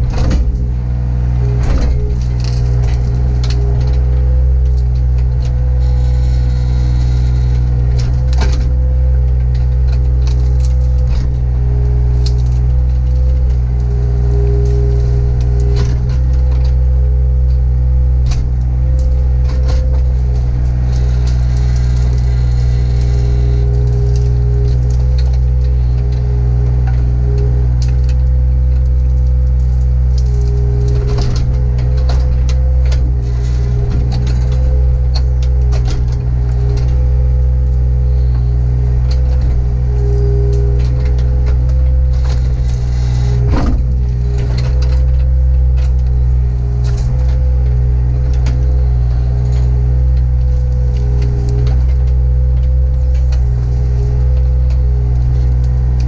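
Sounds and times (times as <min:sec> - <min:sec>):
excavator diesel engine running: 0:00.0 - 0:56.0
loud creak: 0:00.0 - 0:56.0
branches cracking and clicking: 0:01.5 - 0:56.0.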